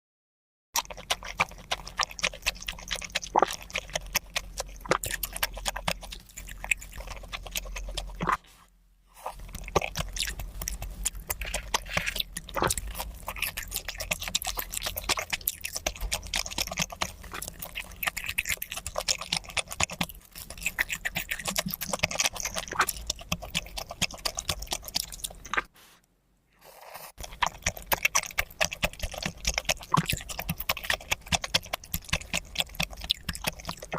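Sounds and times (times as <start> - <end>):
chewing and crunching seafood: 0.8 - 25.9, 26.6 - 33.9.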